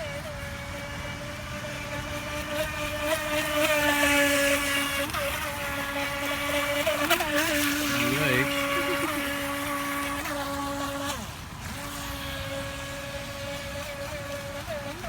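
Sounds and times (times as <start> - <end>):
electric boat motor whining: 0.0 - 15.0.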